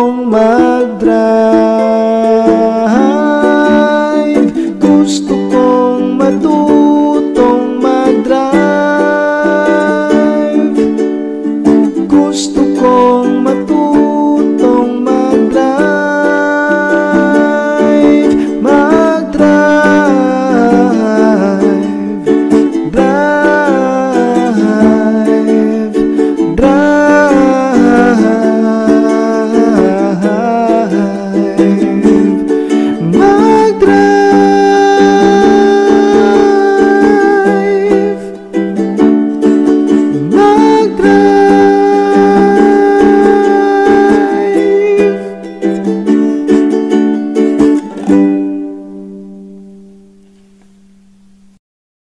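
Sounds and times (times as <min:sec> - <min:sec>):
background song: 0:00.0 - 0:49.5.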